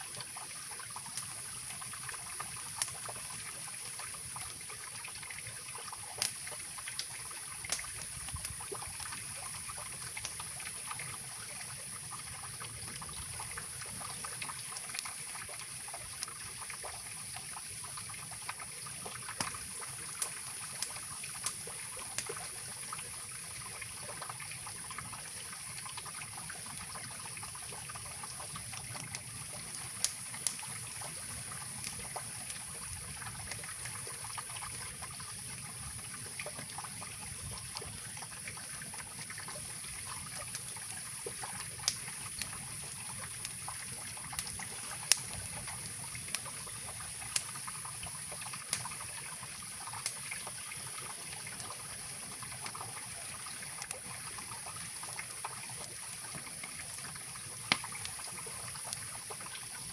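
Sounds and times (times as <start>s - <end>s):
campfire popping and crackling: 0.0s - 59.9s.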